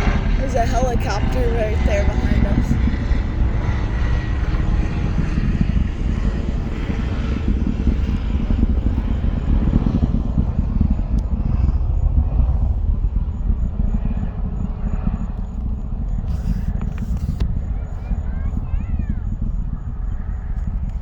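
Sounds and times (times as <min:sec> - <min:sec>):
distant rocket engine rumble: 0:00.0 - 0:21.0.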